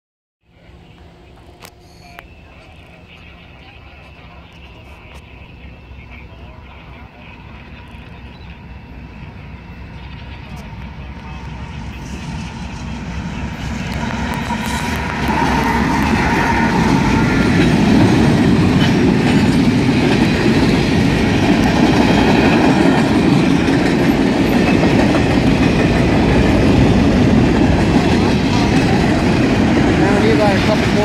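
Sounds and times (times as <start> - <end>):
diesel locomotive passing: 0.5 - 31.0
train wheels rolling on rails: 0.8 - 31.0.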